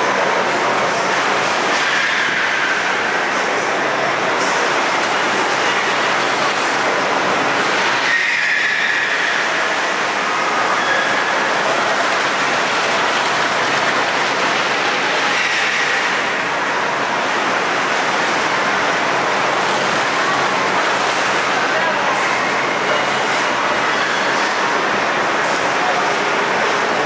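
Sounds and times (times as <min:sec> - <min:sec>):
churning water: 0:00.0 - 0:27.0
ship machinery: 0:00.0 - 0:27.0.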